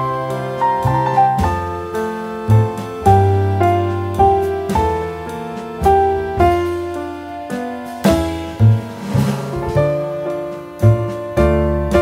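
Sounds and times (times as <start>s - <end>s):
slow sad piano chords: 0.0s - 12.0s.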